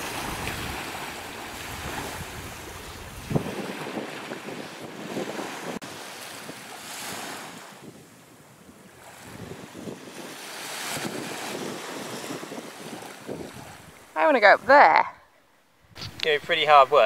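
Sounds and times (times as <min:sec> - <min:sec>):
surf washing: 0:00.0 - 0:15.0, 0:15.9 - 0:17.0
wind buffeting microphone: 0:00.0 - 0:15.0.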